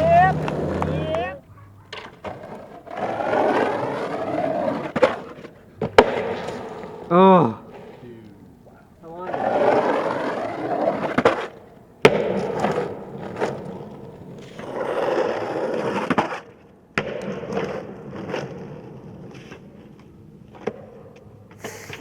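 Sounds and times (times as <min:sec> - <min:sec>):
skateboard clacks: 0:00.0 - 0:08.0, 0:09.2 - 0:22.0
skateboard wheels rolling: 0:00.0 - 0:22.0.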